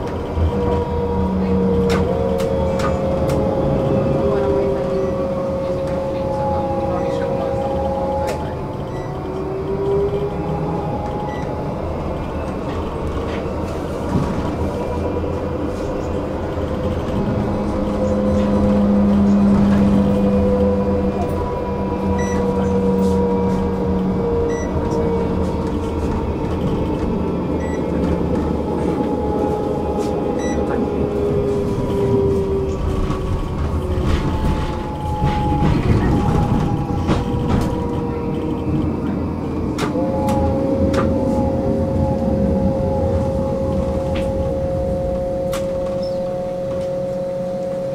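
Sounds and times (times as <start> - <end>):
wheels rumbling on rails: 0.0 - 47.9.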